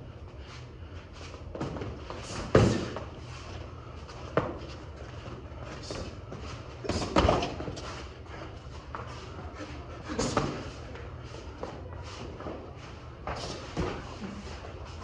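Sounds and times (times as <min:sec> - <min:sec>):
shuffling footwork: 0:00.0 - 0:15.0
steady low hum: 0:00.0 - 0:15.0.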